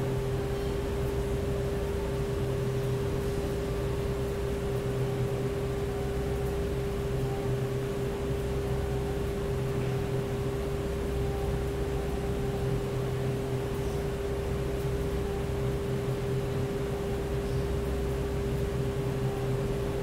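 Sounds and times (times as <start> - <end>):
mechanical hum with mid-pitched tone: 0.0 - 20.0.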